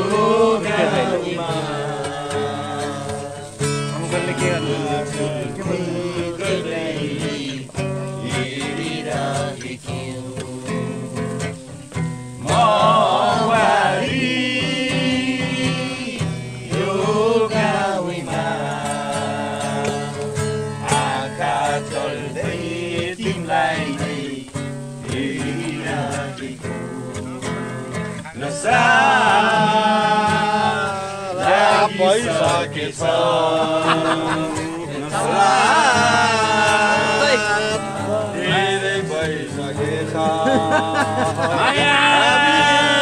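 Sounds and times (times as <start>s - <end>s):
acoustic guitar: 0.0s - 43.0s
voices singing: 0.0s - 43.0s.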